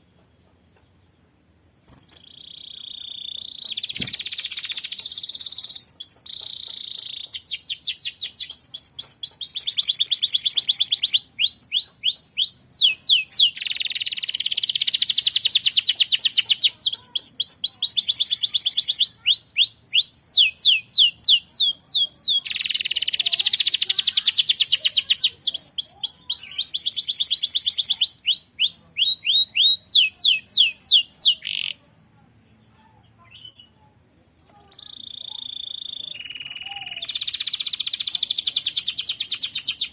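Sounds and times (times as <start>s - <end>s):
canary singing trills: 1.9s - 31.8s, 34.6s - 39.9s.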